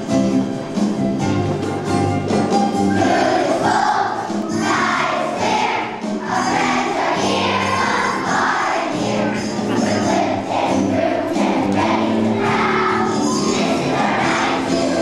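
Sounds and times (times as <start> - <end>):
instrumental accompaniment: 0.0 - 15.0
children singing together: 2.6 - 15.0.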